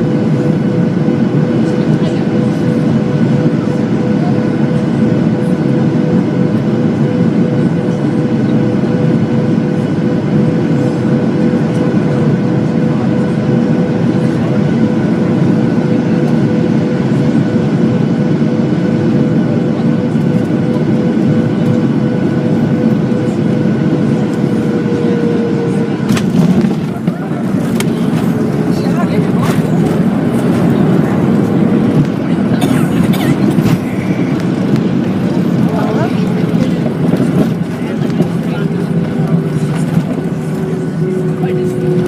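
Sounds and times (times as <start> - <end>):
jet engine rush in cabin: 0.0 - 42.0
steady engine whine: 0.0 - 42.0.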